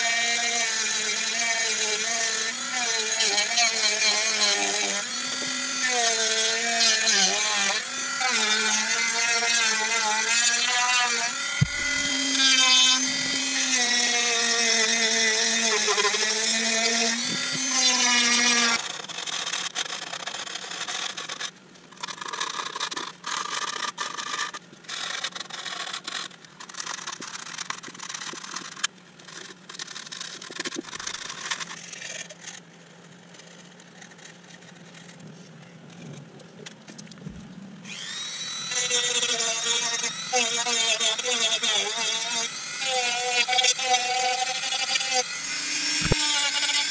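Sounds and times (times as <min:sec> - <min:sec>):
rotary tool grinding wood: 0:00.0 - 0:35.3, 0:37.8 - 0:46.9.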